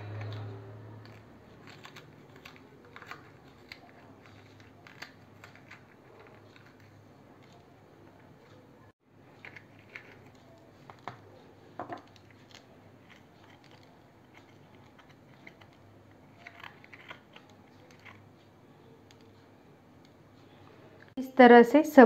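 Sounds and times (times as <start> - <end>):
chilli skin crackling and clicking: 0.0 - 20.3.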